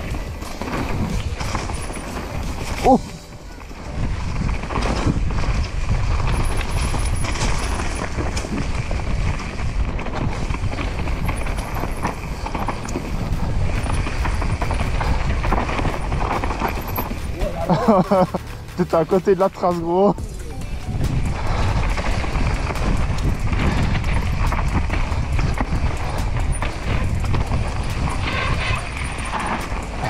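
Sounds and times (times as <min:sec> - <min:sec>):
bike rattling and knocking: 0:00.0 - 0:03.0, 0:04.0 - 0:30.0
wind rumble on microphone: 0:00.0 - 0:18.1, 0:20.2 - 0:30.0
bike tyres on soil and leaves: 0:00.0 - 0:30.0.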